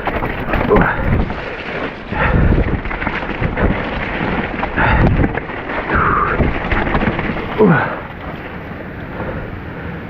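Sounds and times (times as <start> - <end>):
bike knocking and rattling: 0.0 - 10.0
low rumble on camera microphone: 0.0 - 10.0.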